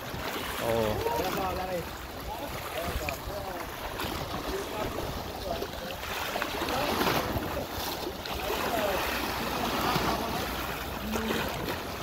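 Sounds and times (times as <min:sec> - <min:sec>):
waves splashing against rocks: 0:00.0 - 0:12.0
wind rumbling on microphone: 0:00.0 - 0:12.0.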